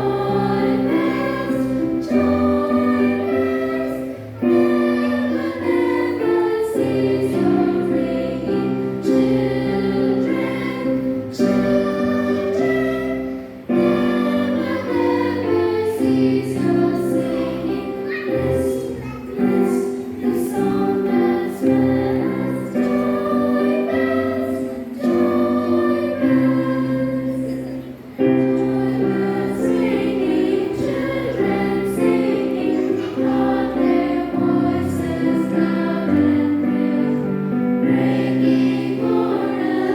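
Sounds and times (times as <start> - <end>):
children's choir singing a hymn: 0.0 - 39.9.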